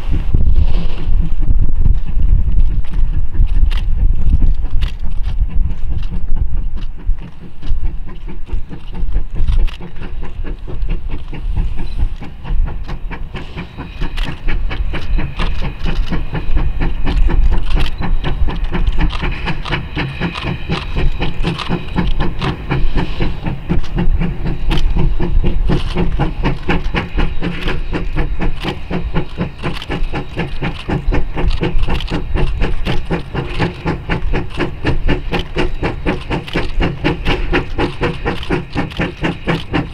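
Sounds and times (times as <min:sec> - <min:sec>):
hissing steam: 0:00.0 - 0:39.9
steam locomotive chuffing: 0:00.0 - 0:39.9.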